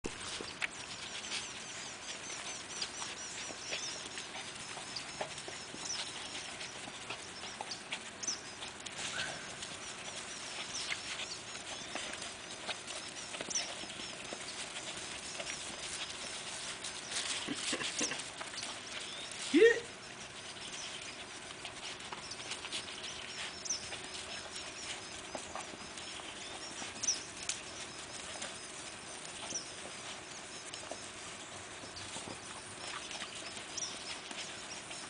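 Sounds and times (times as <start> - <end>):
puppies rustling in grass: 0.0 - 35.0
puppy whine: 0.1 - 35.0.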